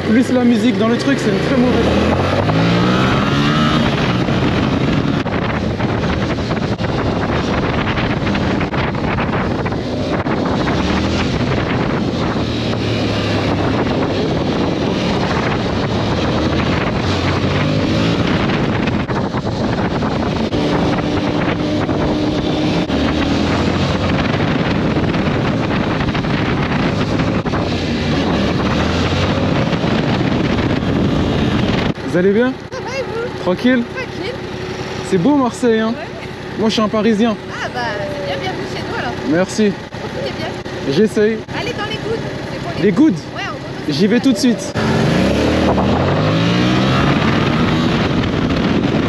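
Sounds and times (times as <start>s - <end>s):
motorcycle engine accelerating: 0.0s - 49.0s
wind rushing over microphone: 0.0s - 49.0s.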